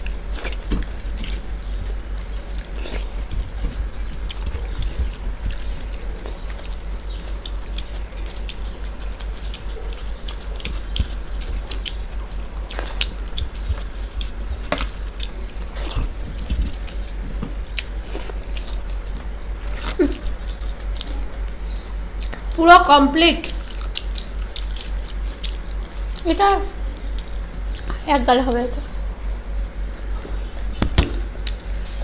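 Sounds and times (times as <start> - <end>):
chewing and smacking: 0.0 - 22.6, 23.4 - 28.0, 28.8 - 32.0
fingers squishing food on plates: 0.0 - 28.0
steady low hum: 0.0 - 32.0.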